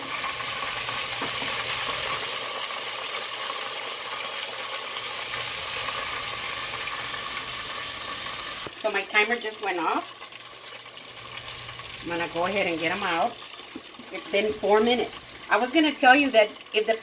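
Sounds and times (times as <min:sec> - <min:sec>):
chicken sizzling in deep fryer: 0:00.0 - 0:17.0.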